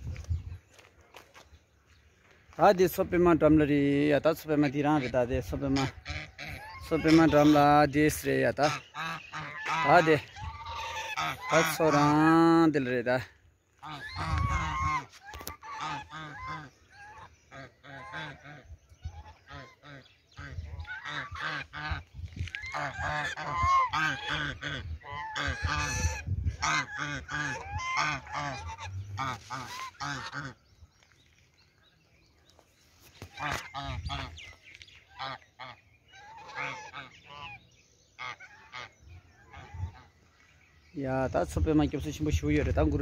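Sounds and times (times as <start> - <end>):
waterfowl calling: 4.5 - 31.5, 33.0 - 40.7.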